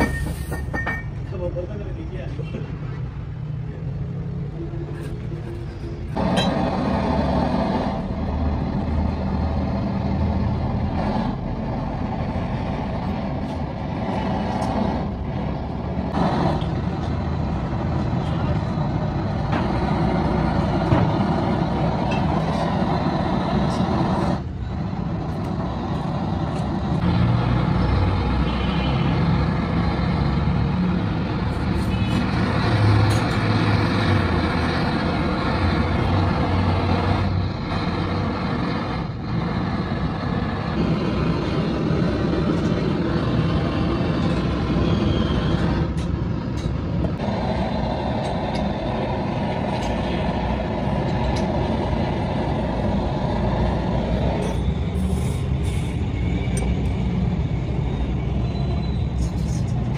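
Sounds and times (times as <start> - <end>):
gas torch rushing: 0.0 - 0.8, 4.9 - 59.9.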